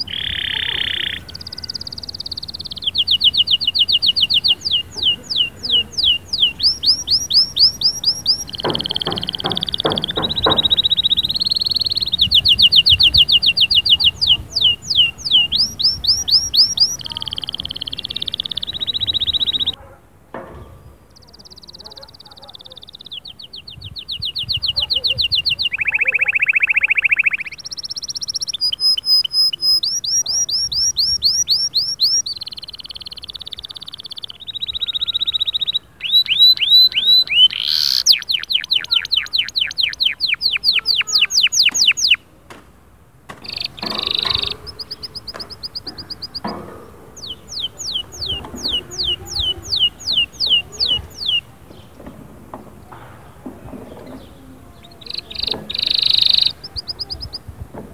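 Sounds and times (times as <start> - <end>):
canary singing trills: 0.0 - 19.8, 20.5 - 42.3, 43.4 - 57.8.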